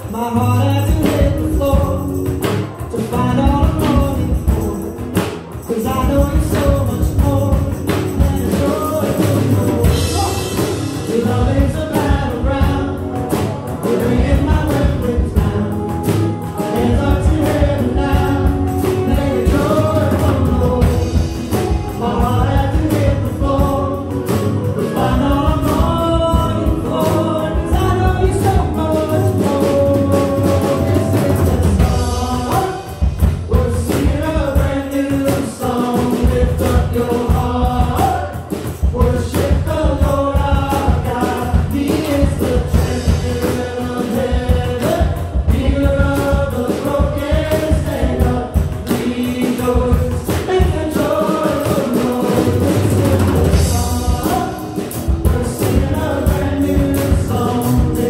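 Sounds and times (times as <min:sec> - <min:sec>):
acoustic guitar: 0:00.0 - 0:58.0
drum kit: 0:00.0 - 0:58.0
keyboards: 0:00.0 - 0:58.0
voices singing together: 0:00.0 - 0:58.0.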